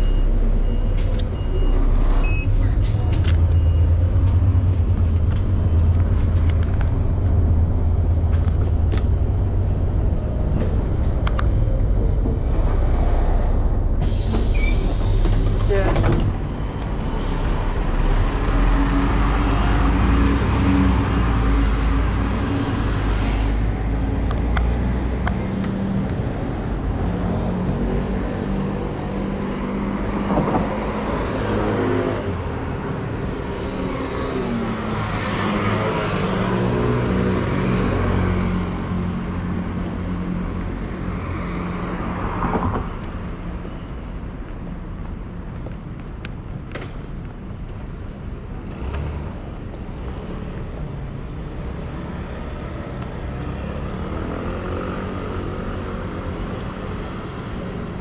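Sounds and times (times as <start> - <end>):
bus engine rumbling: 0.0 - 58.0
cars passing: 0.0 - 58.0.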